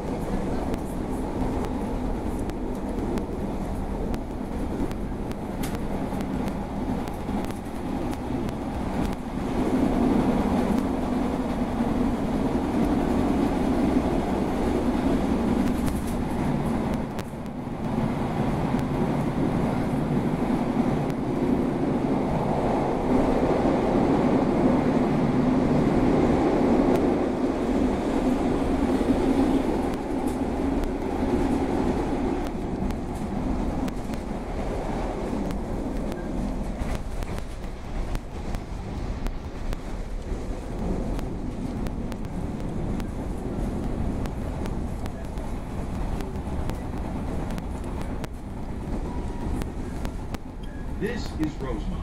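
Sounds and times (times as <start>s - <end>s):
train wheels on rail: 0.0s - 52.0s.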